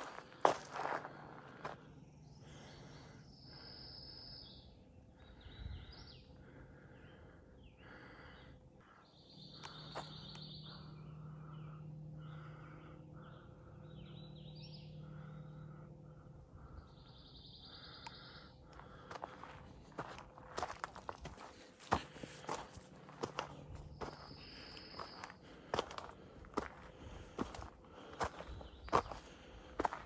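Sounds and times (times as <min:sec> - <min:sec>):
birds singing: 0:00.0 - 0:30.0
faint low hum: 0:00.0 - 0:30.0.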